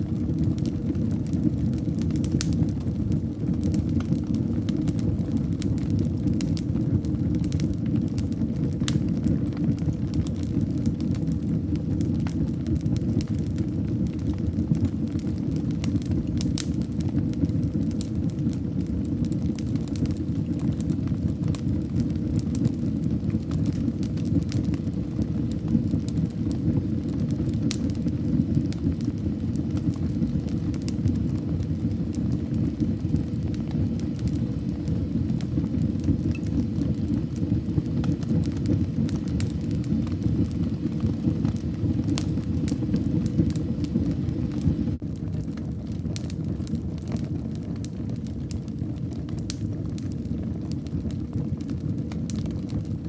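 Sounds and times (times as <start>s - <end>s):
low rumble of burning: 0.0s - 53.0s
wood fire crackling and popping: 0.0s - 53.0s.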